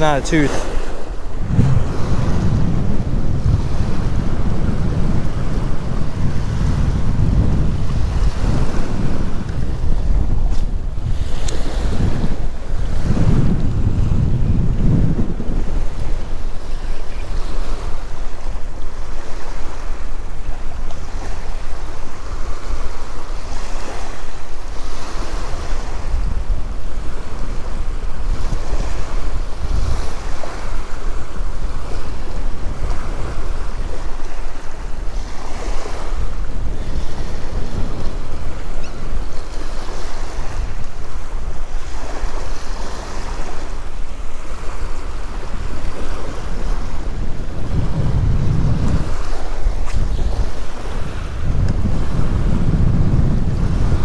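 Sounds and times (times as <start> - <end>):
surf washing on sand: 0.0 - 54.0
wind rumbling on microphone: 0.0 - 54.0.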